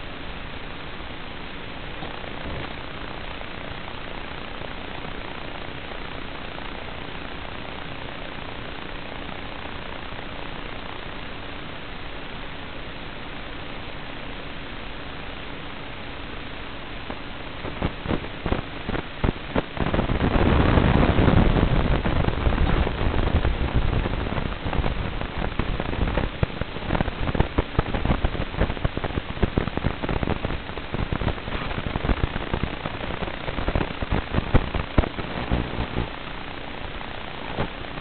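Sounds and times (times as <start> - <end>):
radio static hiss and crackle: 0.0 - 38.0.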